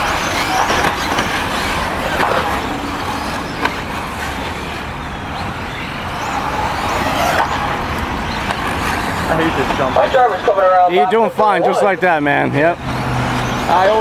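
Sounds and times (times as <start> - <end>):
electric motors whining: 0.0 - 14.0
steady rushing noise: 0.0 - 14.0.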